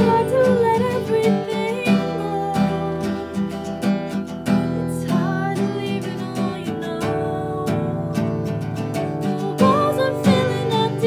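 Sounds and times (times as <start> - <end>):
acoustic guitar strumming: 0.0 - 11.0
woman singing: 0.0 - 11.0.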